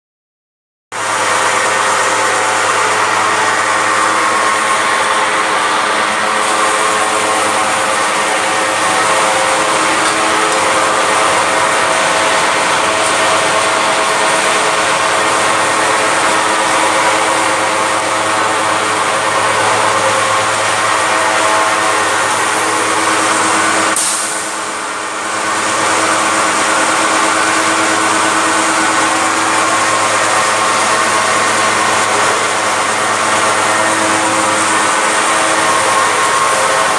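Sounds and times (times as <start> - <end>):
furnace rushing drone: 1.0 - 36.9
steady machine hums: 1.0 - 36.9.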